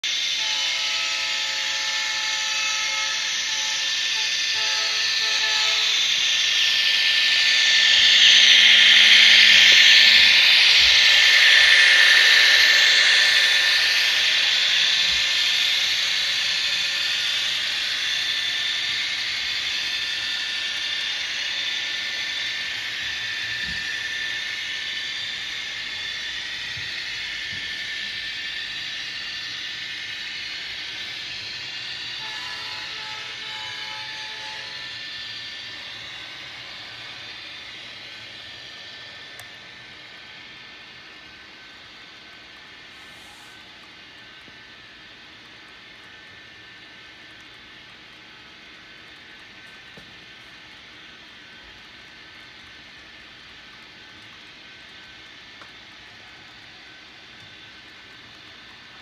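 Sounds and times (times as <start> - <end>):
model train wheels rolling: 0.1 - 59.0.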